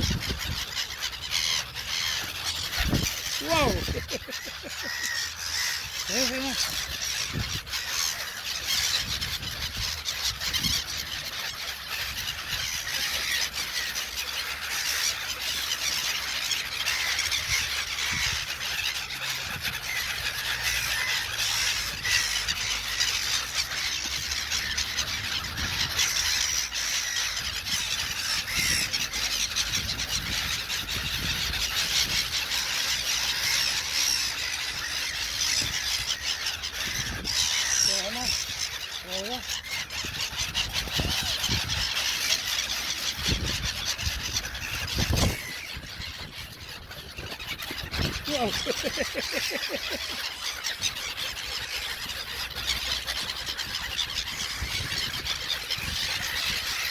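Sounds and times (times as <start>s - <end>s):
gulls calling: 0.0s - 56.9s.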